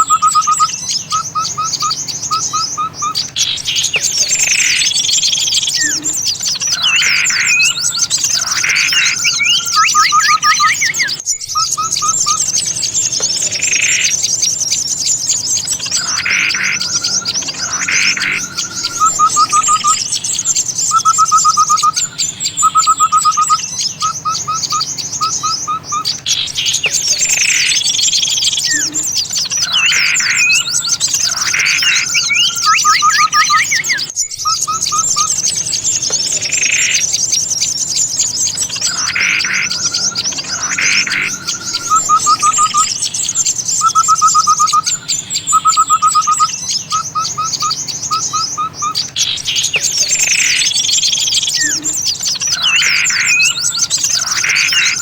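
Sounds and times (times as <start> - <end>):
bird trill: 0.0 - 55.0
loud single bird calls: 0.0 - 55.0
songbirds chirping chorus: 0.0 - 55.0.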